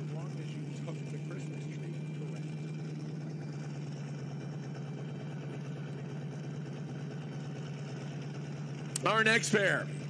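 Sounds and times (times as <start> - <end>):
race car engines idling: 0.0 - 10.0.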